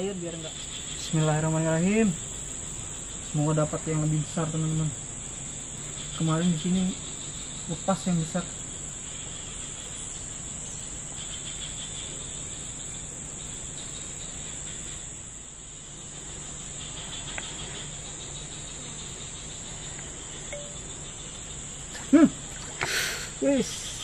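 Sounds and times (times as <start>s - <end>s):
faint background hiss: 0.0s - 24.0s
high-pitched insect chorus: 0.0s - 24.0s.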